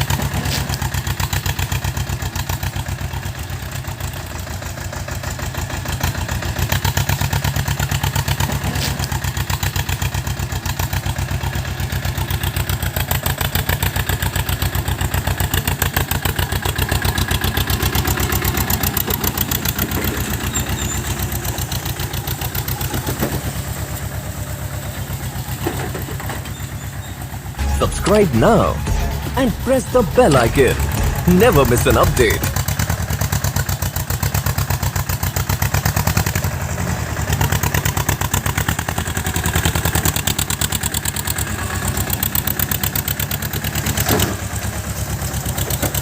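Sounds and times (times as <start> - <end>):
tractor engine running under load: 0.0 - 46.0.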